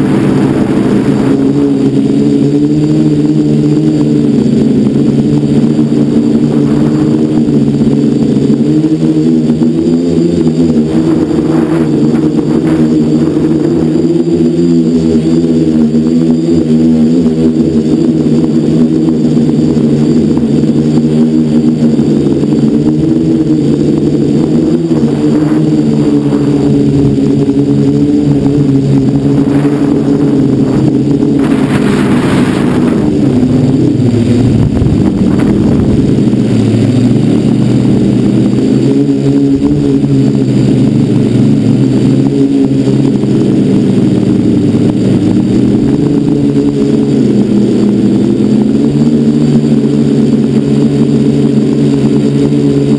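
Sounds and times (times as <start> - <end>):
quadcopter propellers humming: 0.0 - 52.9
wind rush: 0.0 - 52.9.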